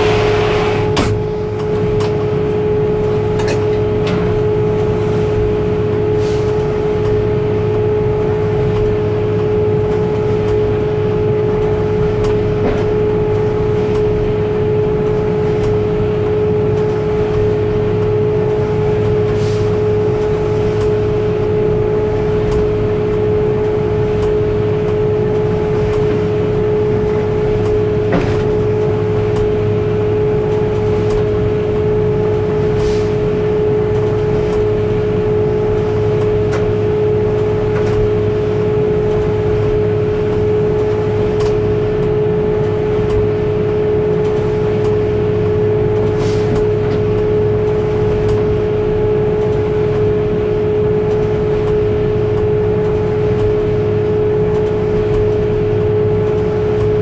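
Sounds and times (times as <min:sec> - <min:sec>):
truck engine drone with whine: 0:00.0 - 0:57.0.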